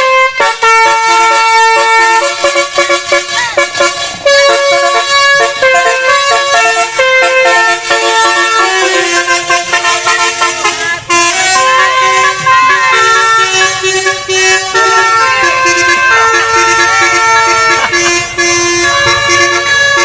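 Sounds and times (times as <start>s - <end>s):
bus horn playing a tune: 0.0s - 20.0s.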